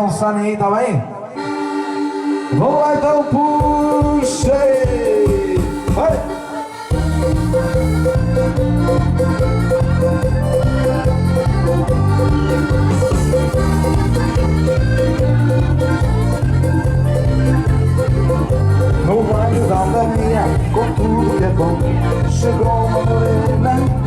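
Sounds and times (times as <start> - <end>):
accordion melody: 1.3 - 24.0
pounding bass beat: 3.7 - 24.0.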